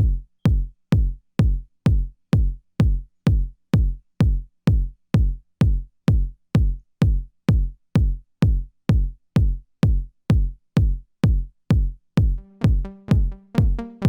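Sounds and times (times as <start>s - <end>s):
synthesizer kick drum pulse: 0.0s - 14.0s.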